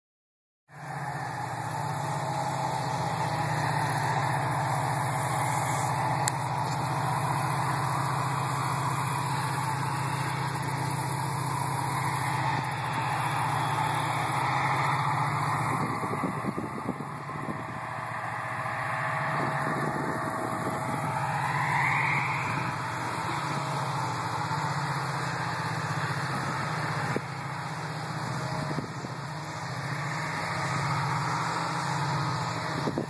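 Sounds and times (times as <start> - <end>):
heavy engine droning: 0.7 - 33.0
even rushing noise: 0.8 - 33.0.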